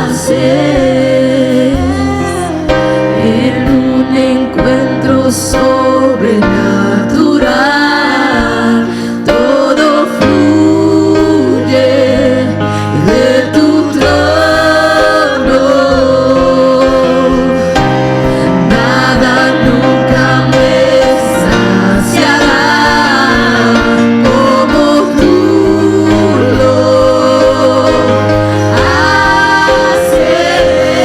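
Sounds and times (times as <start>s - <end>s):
band chords and bass: 0.0s - 31.0s
voices singing gospel: 0.0s - 31.0s.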